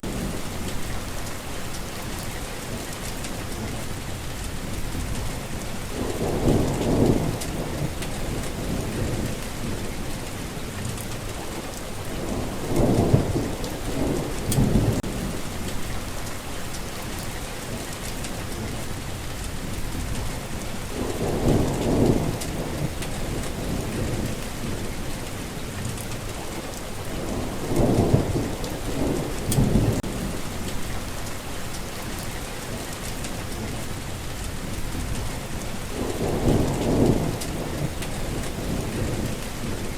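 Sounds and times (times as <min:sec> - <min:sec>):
low thunder rumbling: 0:00.0 - 0:39.9
steady rain falling: 0:00.0 - 0:39.9.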